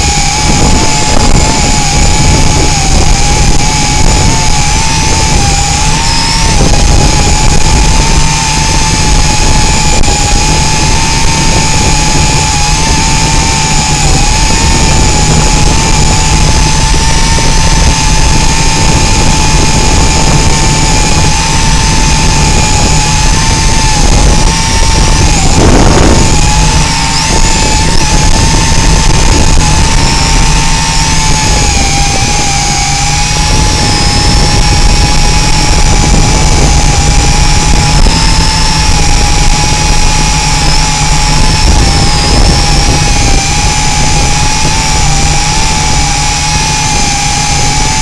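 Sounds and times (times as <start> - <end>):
drone motors whining: 0.0 - 48.0
wind buffeting microphone: 0.0 - 48.0.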